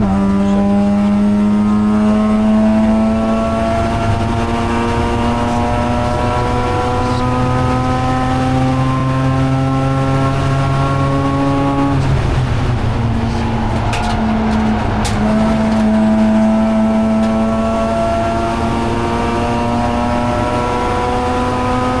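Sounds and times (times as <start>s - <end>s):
rotary race car engine: 0.0s - 22.0s.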